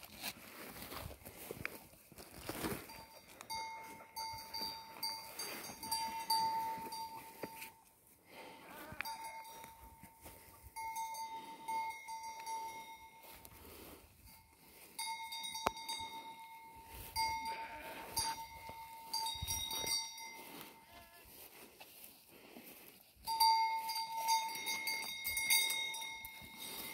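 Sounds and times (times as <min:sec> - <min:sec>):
sheep bell clanking: 0:02.5 - 0:08.0, 0:08.8 - 0:21.2, 0:22.9 - 0:26.9.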